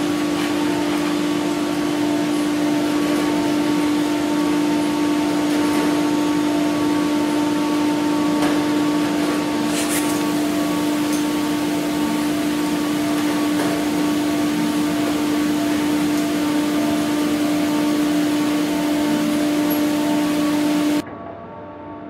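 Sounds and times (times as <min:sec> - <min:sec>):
steady mechanical hum: 0:00.0 - 0:21.2.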